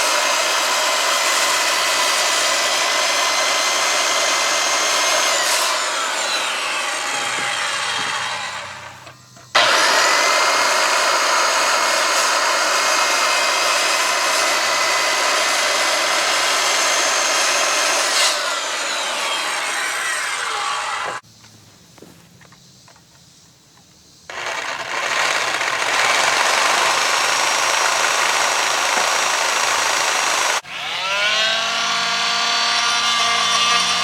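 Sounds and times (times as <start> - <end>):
electric power saw cutting lumber: 0.0 - 21.2, 24.3 - 34.0.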